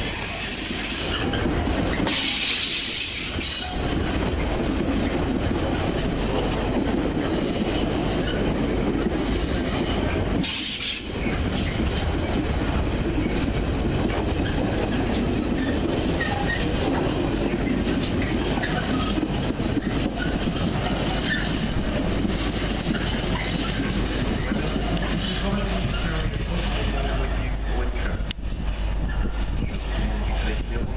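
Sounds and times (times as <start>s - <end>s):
train wheels rumbling on track: 0.0s - 30.9s.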